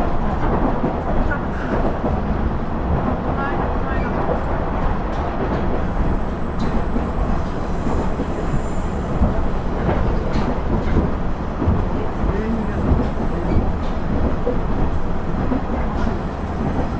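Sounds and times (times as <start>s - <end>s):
railcar diesel engine rumble: 0.0s - 16.9s.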